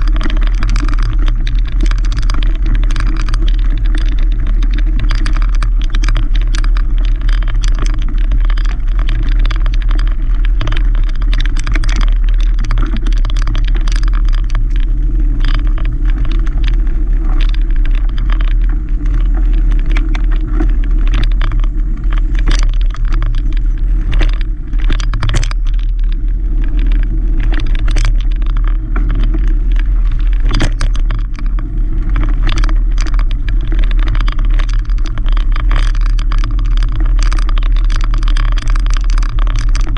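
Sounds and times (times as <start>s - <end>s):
bike low rumble: 0.0s - 39.9s
tyres rattling on loose stones: 0.0s - 39.9s.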